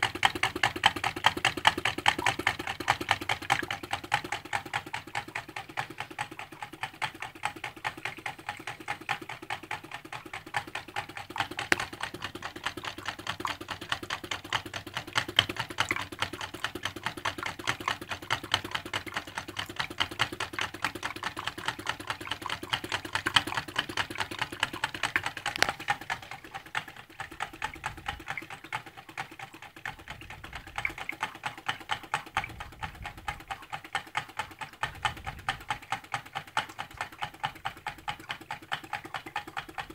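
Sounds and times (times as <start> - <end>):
engine rapid even clicking: 0.0 - 39.9.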